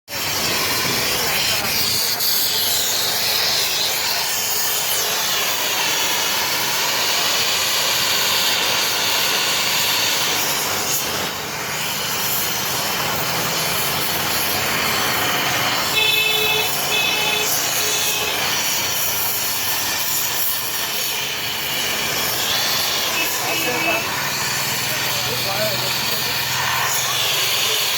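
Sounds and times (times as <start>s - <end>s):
welding arc hissing: 0.1s - 27.9s.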